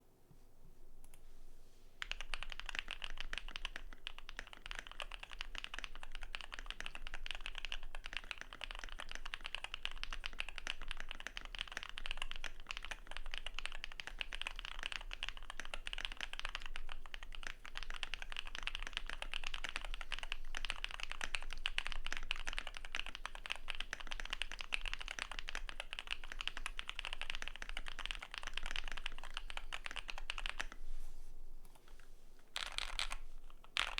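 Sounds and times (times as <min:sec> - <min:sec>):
mechanical keyboard typing: 0:02.0 - 0:30.8, 0:32.6 - 0:33.9.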